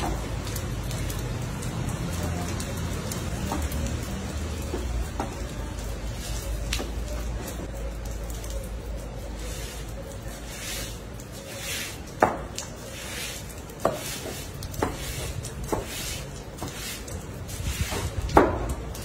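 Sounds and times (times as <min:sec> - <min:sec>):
broom scrubbing wet tiled floor: 0:00.0 - 0:19.0.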